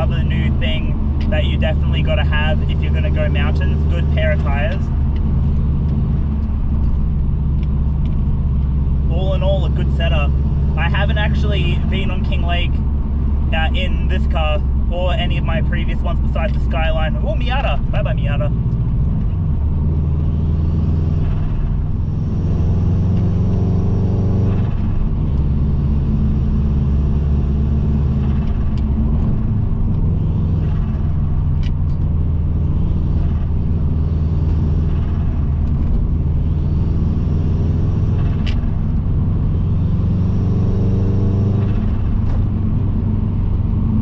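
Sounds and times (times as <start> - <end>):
car engine drone in cabin: 0.0 - 44.0.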